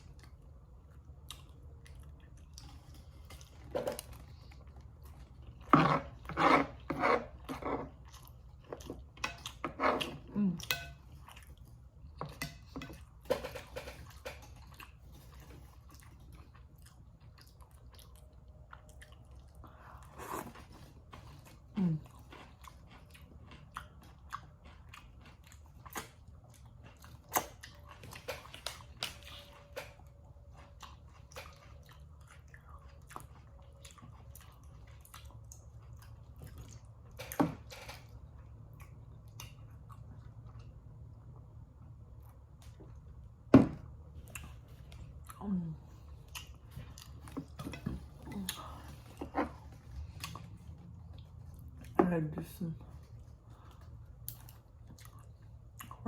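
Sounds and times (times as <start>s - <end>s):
person chewing and mouth smacking: 0.0s - 52.0s, 52.9s - 56.0s.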